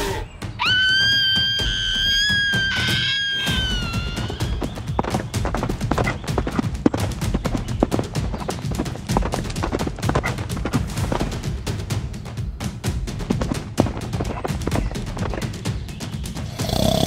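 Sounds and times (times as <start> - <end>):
background music: 0.0 - 17.0
hoofbeats trotting: 0.6 - 17.0.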